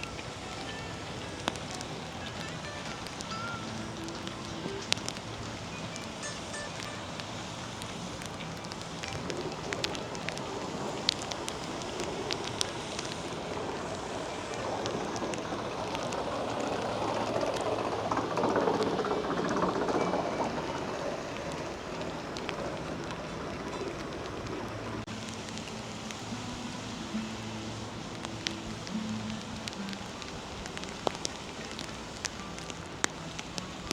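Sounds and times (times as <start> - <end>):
rain falling: 0.0 - 33.9
raindrops ticking: 0.0 - 33.9.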